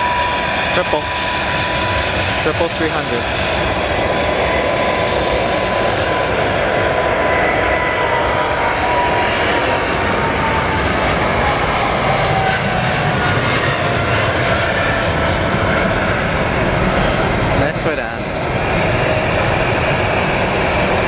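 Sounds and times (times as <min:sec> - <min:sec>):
jet engines roaring at takeoff: 0:00.0 - 0:21.0.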